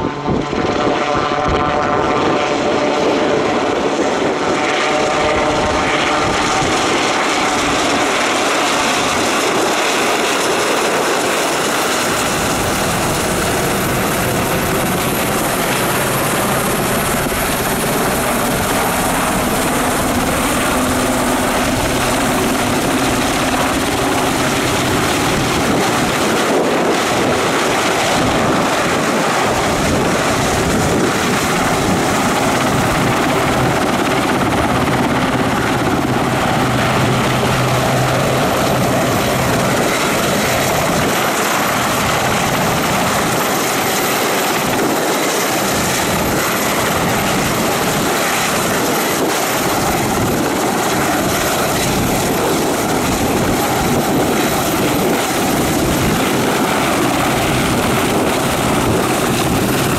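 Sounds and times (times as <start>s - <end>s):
helicopter rotor and engines: 0.0s - 59.9s.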